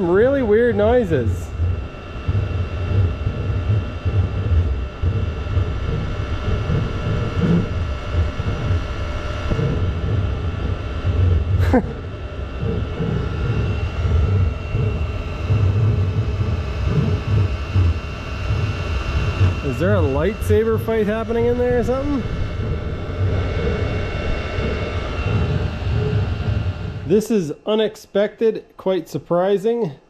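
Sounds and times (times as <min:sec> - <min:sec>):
heater uneven rumbling hum: 0:00.0 - 0:30.0.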